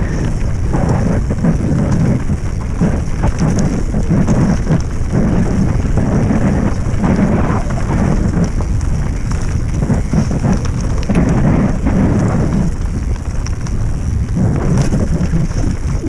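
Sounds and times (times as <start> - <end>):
bike tyres and frame rattling: 0.0 - 16.0
wind buffeting microphone: 0.0 - 16.0.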